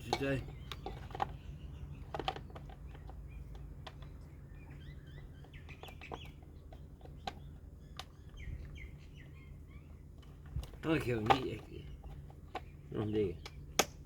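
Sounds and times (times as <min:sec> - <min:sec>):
hard parts clicking and knocking: 0:00.0 - 0:08.7, 0:10.1 - 0:14.0
birds chirping faintly: 0:00.0 - 0:14.0.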